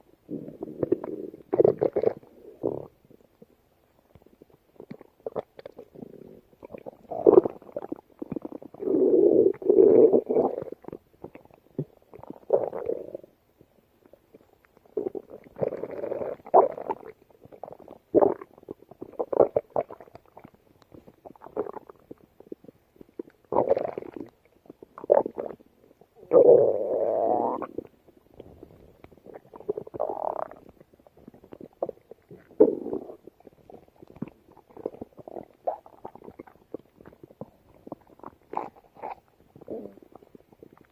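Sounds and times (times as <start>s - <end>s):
stomach growling and gurgling: 0.0s - 40.9s.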